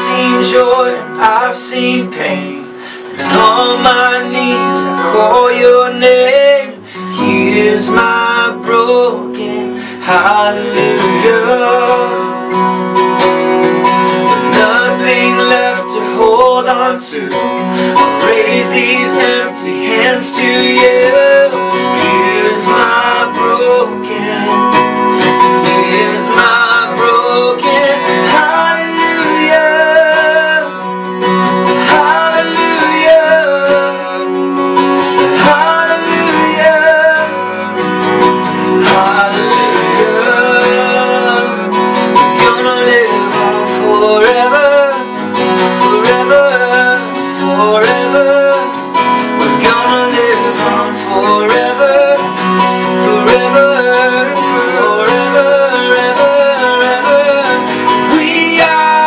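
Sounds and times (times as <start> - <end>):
man singing: 0.0 - 12.8, 14.2 - 59.0
acoustic guitars strummed: 0.0 - 59.0.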